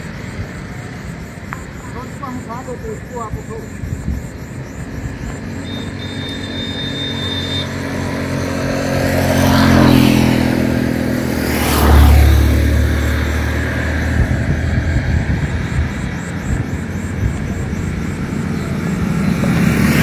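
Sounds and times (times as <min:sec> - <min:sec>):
vehicles passing by: 0:00.0 - 0:20.0.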